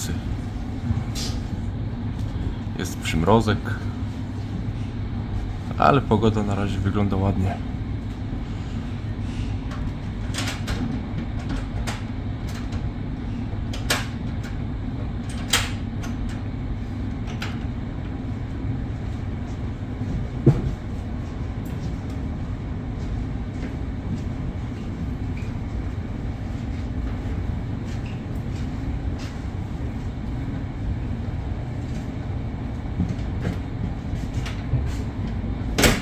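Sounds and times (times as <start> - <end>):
train rumble from inside carriage: 0.0 - 36.0.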